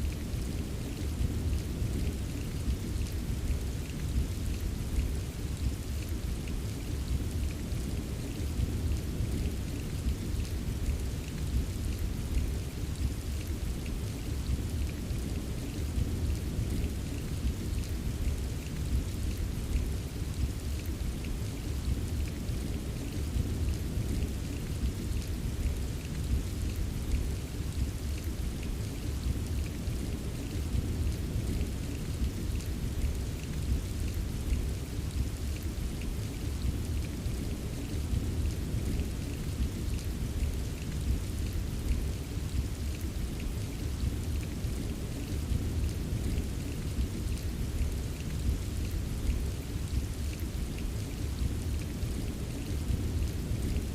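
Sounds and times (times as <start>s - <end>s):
rainfall hiss: 0.0s - 53.9s
raindrop ticks: 0.1s - 53.9s.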